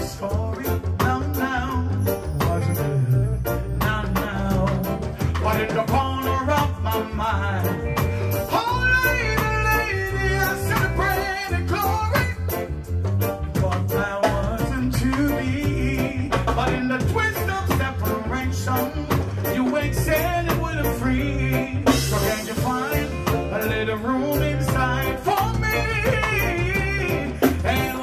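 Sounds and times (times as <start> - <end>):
electric bass: 0.0 - 28.0
man singing into a microphone: 0.0 - 28.0
steady drum beat: 0.0 - 28.0.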